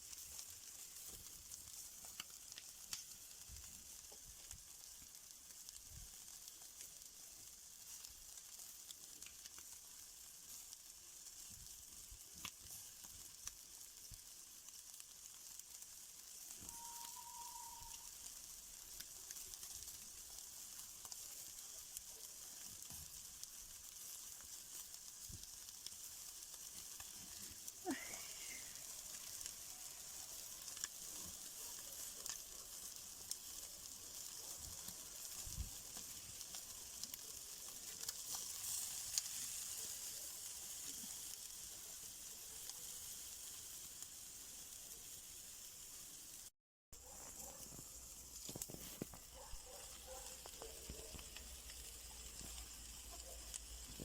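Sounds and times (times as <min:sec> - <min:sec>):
food sizzling on a grill: 0:00.0 - 0:54.0.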